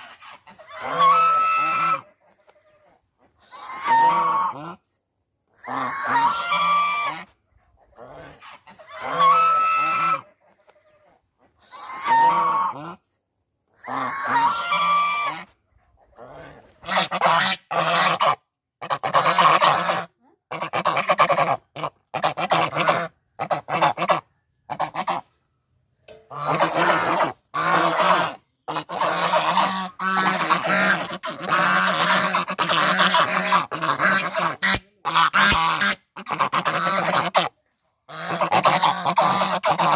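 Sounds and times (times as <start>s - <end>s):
geese honking: 0.0s - 4.8s, 5.6s - 7.3s, 7.9s - 13.0s, 13.8s - 15.5s, 16.2s - 25.4s, 26.1s - 39.9s.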